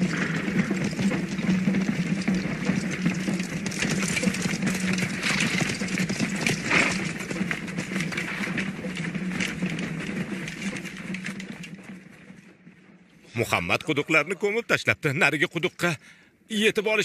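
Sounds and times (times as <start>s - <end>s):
clatter of hooves and feet: 0.0s - 14.6s.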